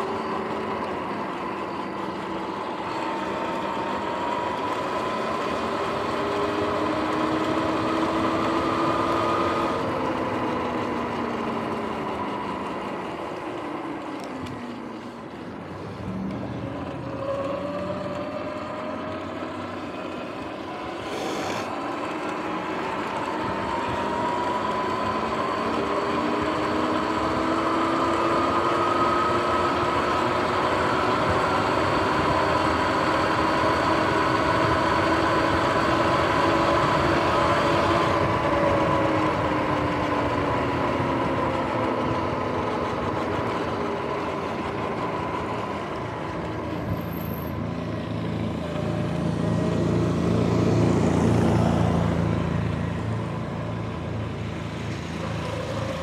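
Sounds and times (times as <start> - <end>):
electric motor whine: 0.0 - 56.0.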